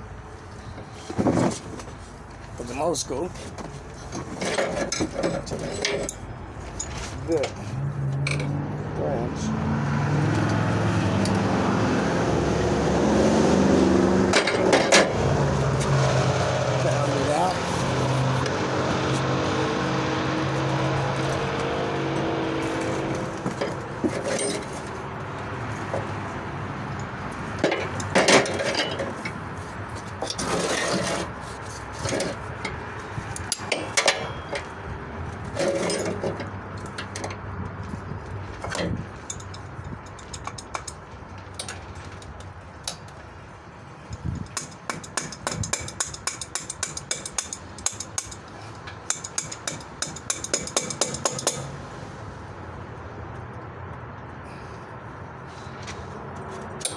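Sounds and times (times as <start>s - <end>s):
metal tools clinking and scraping: 0.5s - 8.7s, 14.3s - 43.3s, 44.0s - 51.8s, 55.7s - 56.9s.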